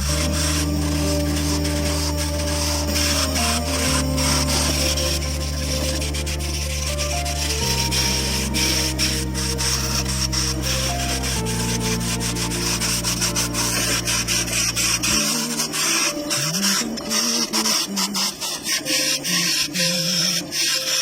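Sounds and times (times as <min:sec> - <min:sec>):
background music with low notes: 0:00.0 - 0:21.0.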